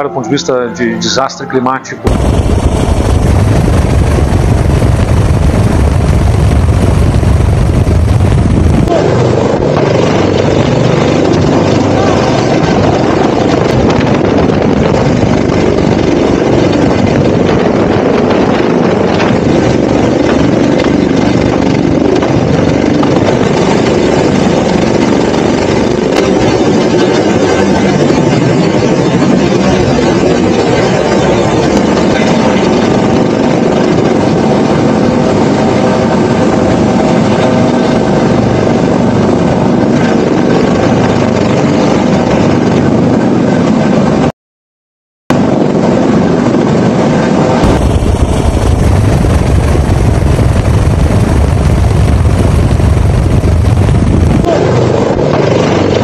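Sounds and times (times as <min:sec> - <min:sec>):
helicopter hovering overhead: 0:00.0 - 0:44.3, 0:45.3 - 0:56.0.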